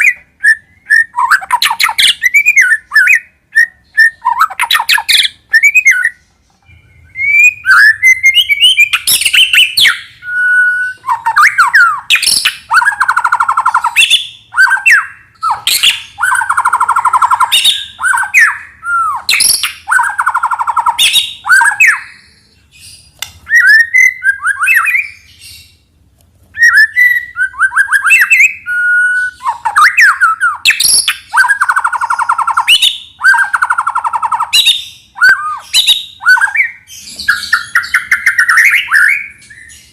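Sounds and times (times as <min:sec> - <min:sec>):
bird whistling song: 0:00.0 - 0:25.9, 0:26.5 - 0:39.9.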